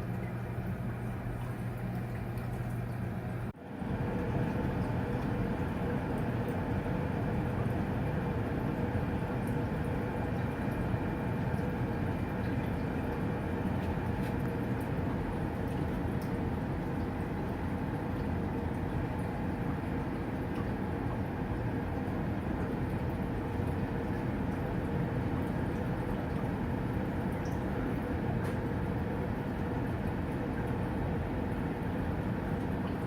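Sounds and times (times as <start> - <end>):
humidifier rushing with hum: 0.0 - 33.0.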